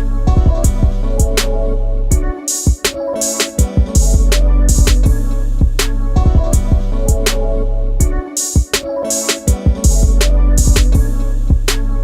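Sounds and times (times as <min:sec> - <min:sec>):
hip-hop music with drum beat: 0:00.0 - 0:12.0.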